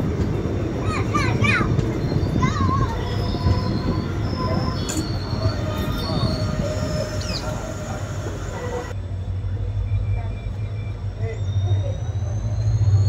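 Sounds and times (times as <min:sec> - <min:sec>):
train wheels rumbling on track: 0:00.0 - 0:13.0
high wheel squeal: 0:00.8 - 0:13.0.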